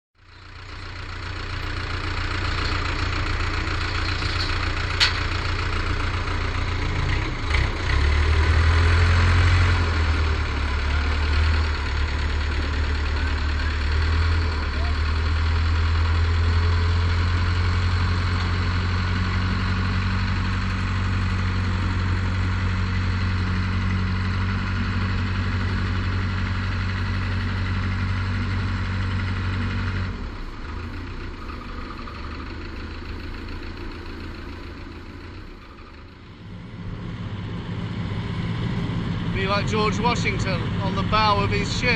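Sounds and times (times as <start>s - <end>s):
boat engine droning: 0.4s - 41.9s.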